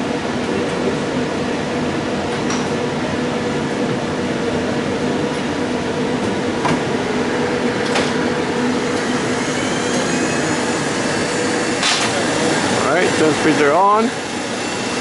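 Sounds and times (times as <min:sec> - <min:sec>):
cooling fans humming: 0:00.0 - 0:15.0.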